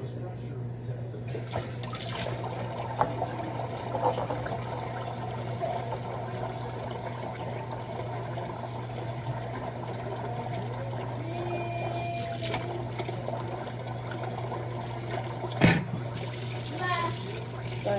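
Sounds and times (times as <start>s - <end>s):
water running and splashing: 1.3s - 17.9s.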